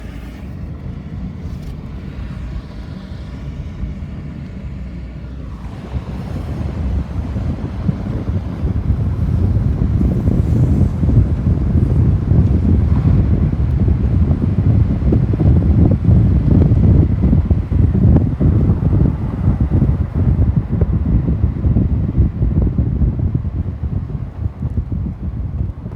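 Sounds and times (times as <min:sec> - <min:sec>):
road traffic rumble: 0:00.0 - 0:25.9
wind buffeting microphone: 0:00.0 - 0:25.9.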